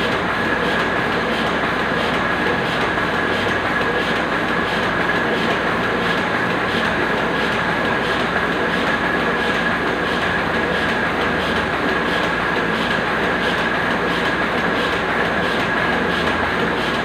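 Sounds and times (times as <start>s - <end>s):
machinery rhythmic clatter: 0.0s - 17.0s.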